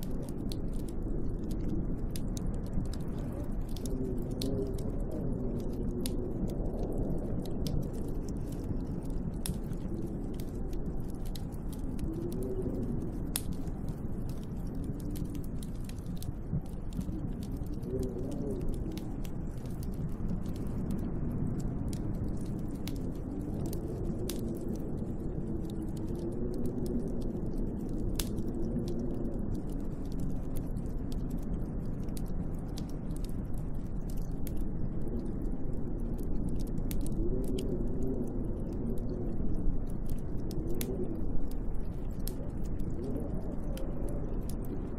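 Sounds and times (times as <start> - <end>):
faint ticks: 0.0 - 44.9
sharp crackling clicks: 0.0 - 44.9
storm wind howling: 0.0 - 44.9.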